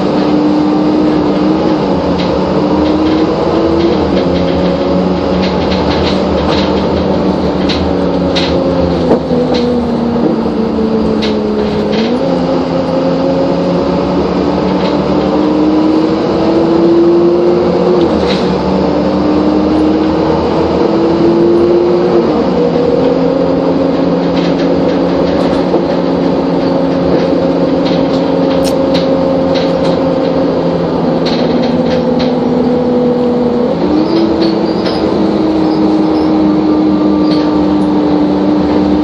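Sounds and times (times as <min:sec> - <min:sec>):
bus diesel engine: 0:00.0 - 0:39.0
interior clicks and rattles: 0:00.0 - 0:39.0.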